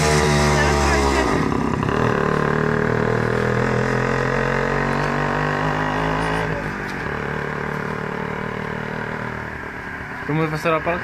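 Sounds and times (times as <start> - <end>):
motorcycle riding away: 0.0 - 9.8.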